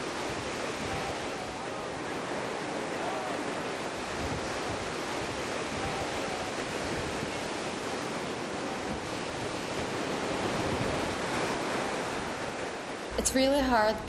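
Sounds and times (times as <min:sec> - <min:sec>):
surf breaking on rocky shore: 0:00.0 - 0:14.0.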